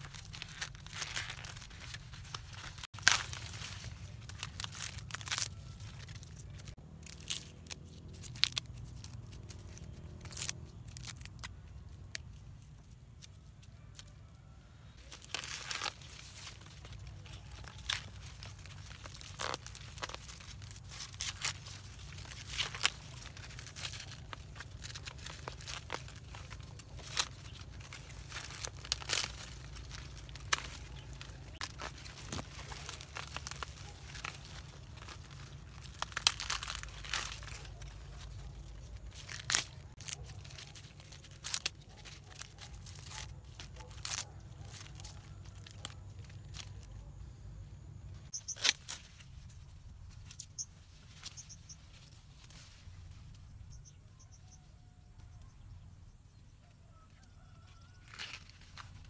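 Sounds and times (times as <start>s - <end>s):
dry corn husks tearing and crackling: 0.0s - 55.5s, 56.4s - 59.0s.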